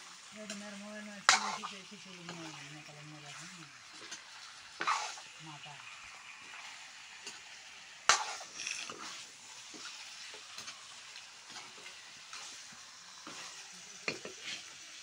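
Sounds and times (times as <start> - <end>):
meat sizzling in pan: 0.0 - 15.0.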